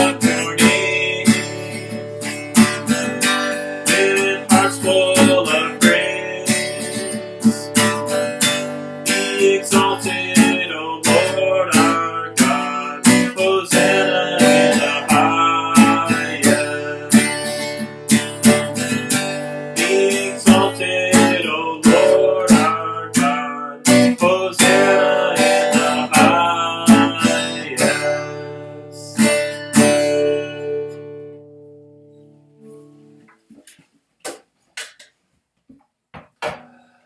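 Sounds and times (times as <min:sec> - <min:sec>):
acoustic guitar strumming chords: 0:00.0 - 0:33.6.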